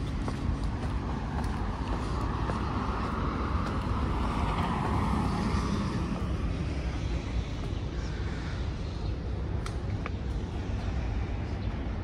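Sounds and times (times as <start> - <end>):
passing traffic rumble: 0.0 - 12.0.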